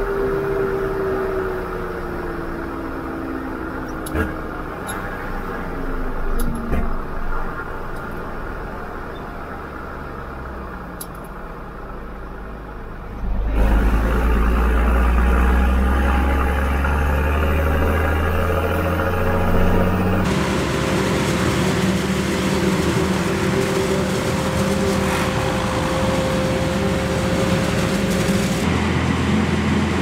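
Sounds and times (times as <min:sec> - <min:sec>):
farm machinery diesel engines: 0:00.0 - 0:30.0.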